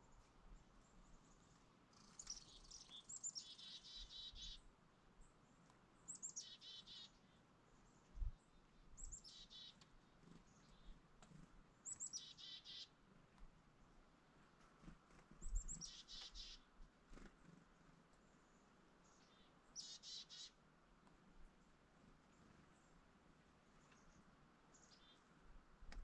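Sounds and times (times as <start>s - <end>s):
songbirds calling: 0.0s - 14.0s, 15.0s - 20.6s, 21.4s - 26.0s.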